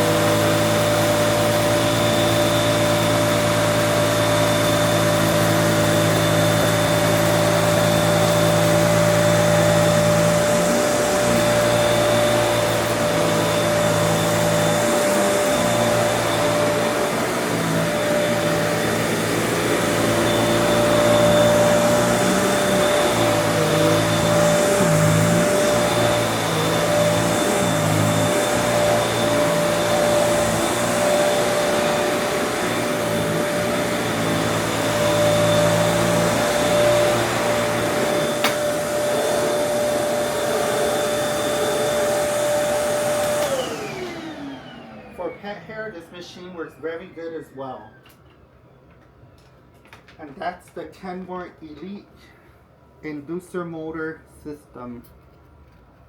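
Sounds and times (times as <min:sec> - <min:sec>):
vacuum cleaner running: 0:00.0 - 0:48.2.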